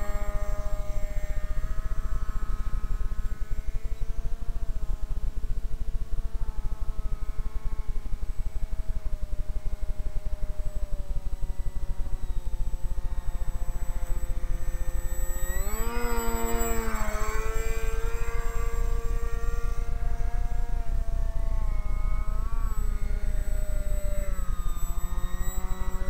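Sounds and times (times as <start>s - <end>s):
propeller motor whine: 0.0s - 26.0s.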